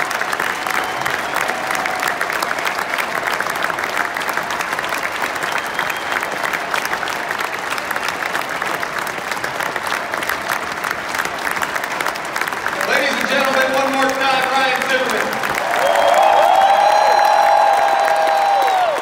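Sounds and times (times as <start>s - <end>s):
stadium crowd applauding: 0.0s - 19.0s.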